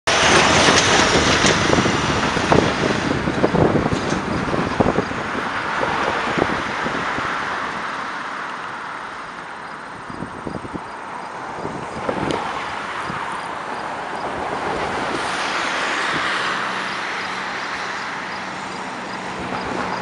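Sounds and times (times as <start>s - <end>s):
road traffic passing: 0.0s - 20.0s
wind noise on microphone: 0.1s - 20.0s.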